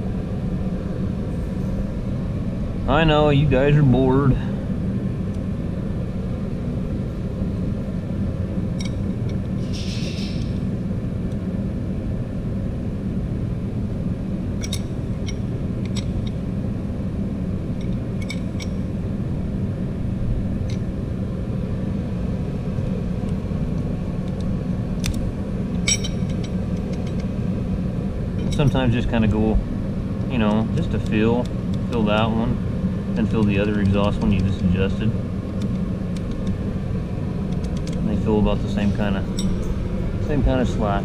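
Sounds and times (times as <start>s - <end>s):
heater running: 0.0s - 41.0s.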